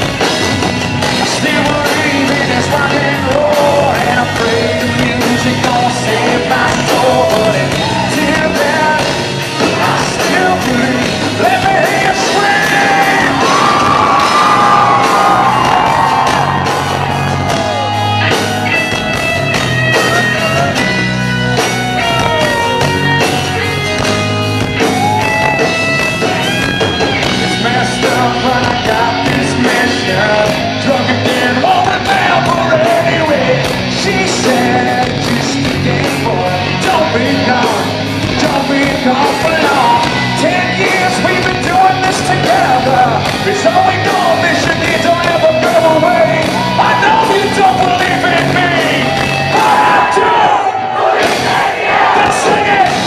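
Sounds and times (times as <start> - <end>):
crowd yelling: 0.0 - 53.0
rock band playing: 0.0 - 53.0.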